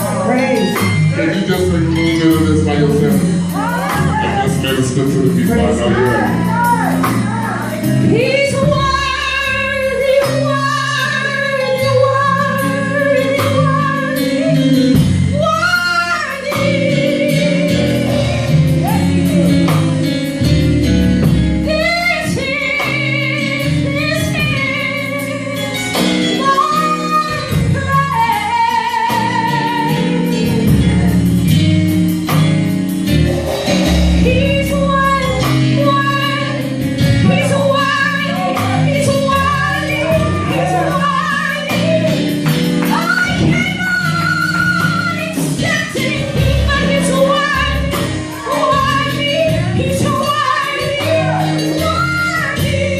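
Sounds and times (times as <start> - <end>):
instrumental accompaniment: 0.0 - 52.9.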